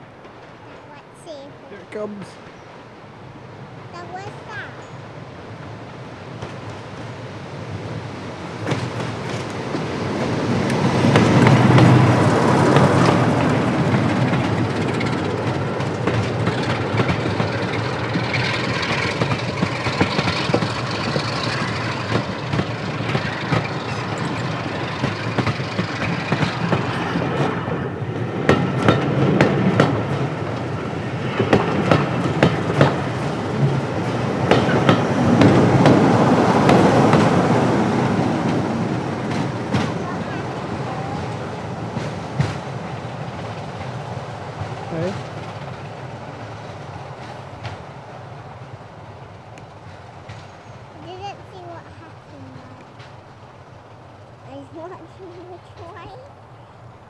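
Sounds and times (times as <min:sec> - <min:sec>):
diesel locomotive engines: 0:00.0 - 0:57.0
train wheels clicking over rail joints: 0:00.0 - 0:57.0.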